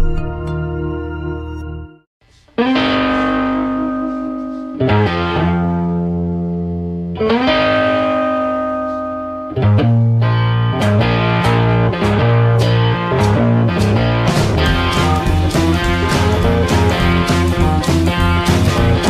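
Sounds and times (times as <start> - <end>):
electric guitar chords: 2.6 - 19.0.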